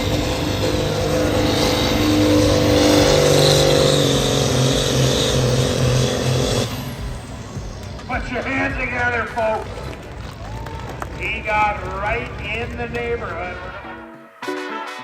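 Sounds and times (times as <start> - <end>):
engine running at high revs: 0.0 - 13.8.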